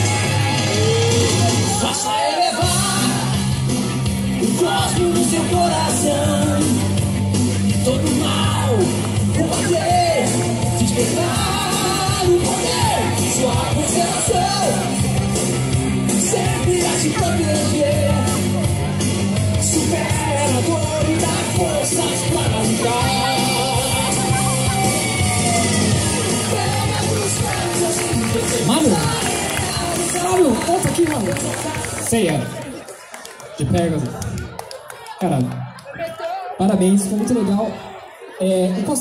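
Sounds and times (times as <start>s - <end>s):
rock song over loudspeakers: 0.0s - 36.0s.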